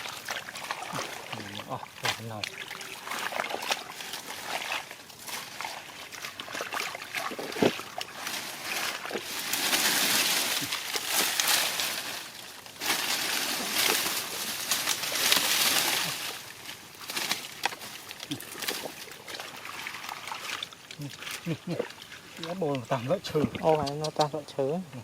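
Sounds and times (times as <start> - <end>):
water sloshing and splashing: 0.0 - 24.7.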